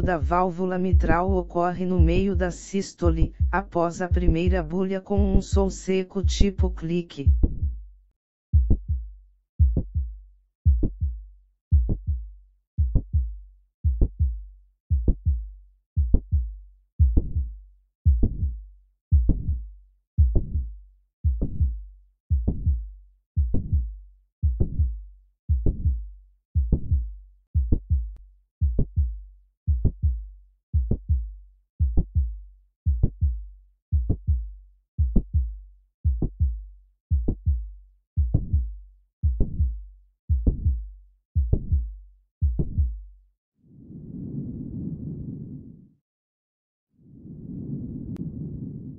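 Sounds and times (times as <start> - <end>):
heartbeat through stethoscope: 0.0 - 7.9, 8.5 - 43.1.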